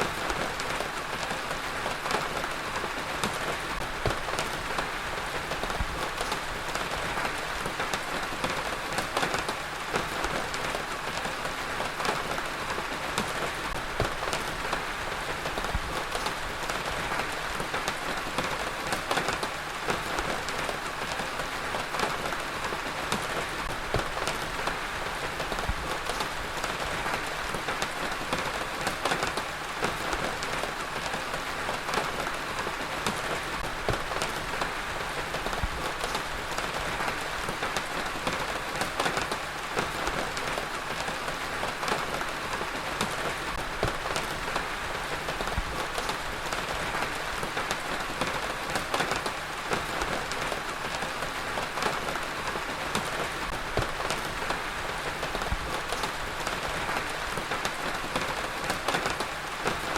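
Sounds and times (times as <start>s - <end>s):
heavy rain on a hard surface: 0.0s - 59.9s.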